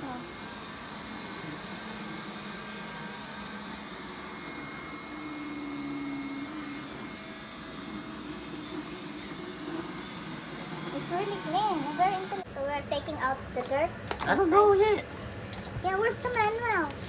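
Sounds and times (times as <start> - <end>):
robot vacuum cleaner humming: 0.0 - 15.0.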